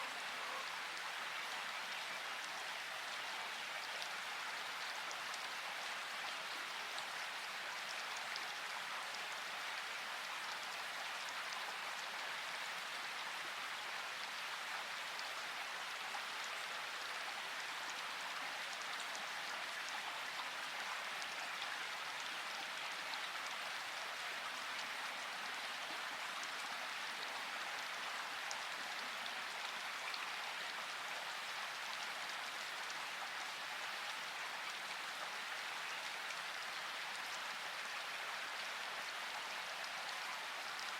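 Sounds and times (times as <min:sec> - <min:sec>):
rain falling in forest: 0:00.0 - 0:40.9.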